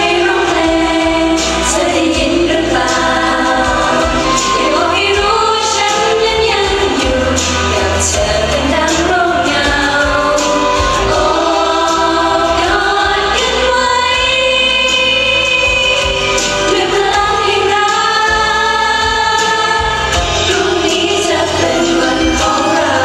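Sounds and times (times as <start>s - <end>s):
backing track through loudspeakers: 0.0s - 23.0s
woman singing pop vocals: 0.0s - 23.0s.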